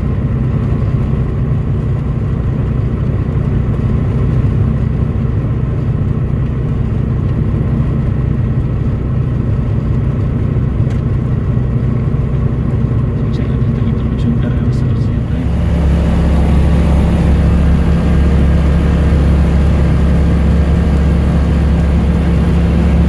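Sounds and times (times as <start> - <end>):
light aircraft engine running: 0.0 - 23.0.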